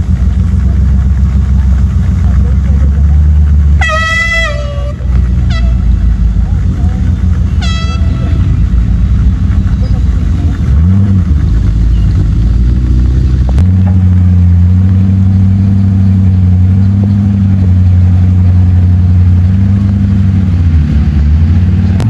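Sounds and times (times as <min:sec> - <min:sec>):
vehicle engine running at low revs: 0:00.0 - 0:22.0.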